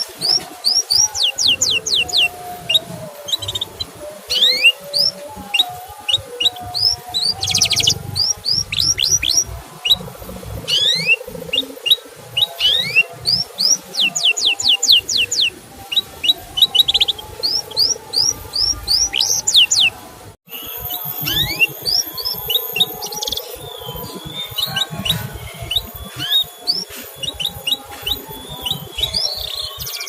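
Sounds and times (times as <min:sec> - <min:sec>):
canary chirping: 0:00.0 - 0:30.0.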